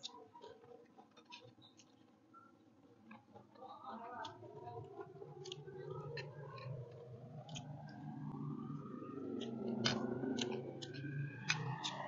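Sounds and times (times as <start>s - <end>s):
chewing clicks: 0.0s - 3.6s, 4.2s - 12.0s
low steady hum: 0.0s - 12.0s.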